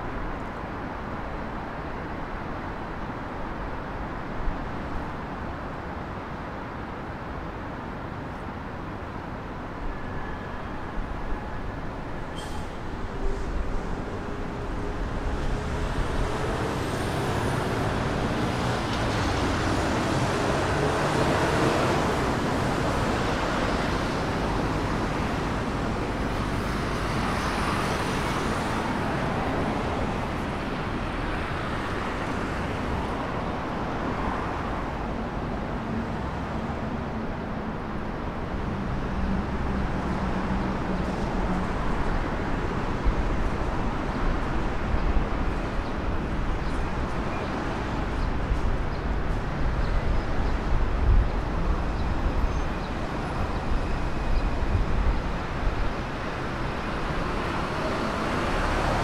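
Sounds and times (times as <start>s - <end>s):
road traffic hum: 0.0s - 59.0s.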